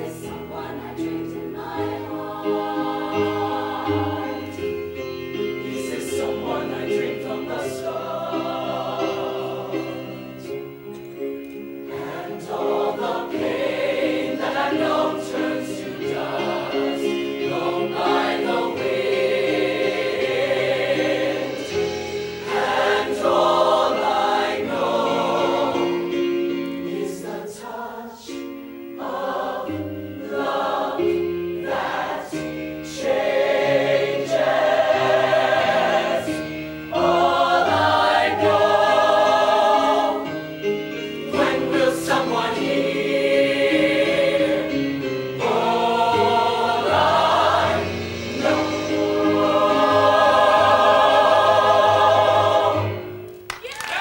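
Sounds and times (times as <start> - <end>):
choir singing in harmony: 0.0 - 53.4.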